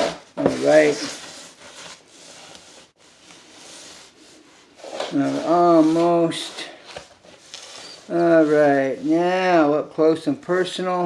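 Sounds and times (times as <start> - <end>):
faint rustling handling noise: 0.0 - 11.0.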